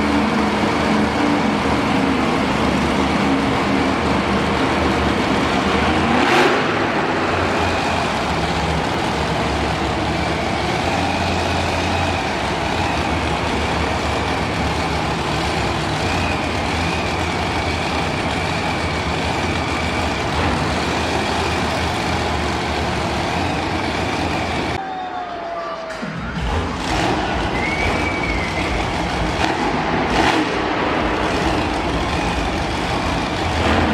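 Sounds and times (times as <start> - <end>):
loud truck engine running: 0.0 - 24.8, 26.4 - 33.9.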